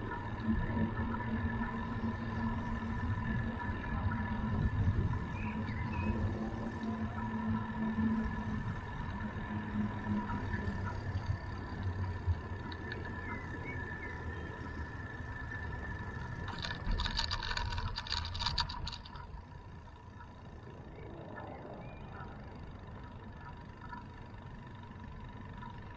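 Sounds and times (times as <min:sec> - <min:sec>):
bicycle rolling: 0:00.0 - 0:25.9.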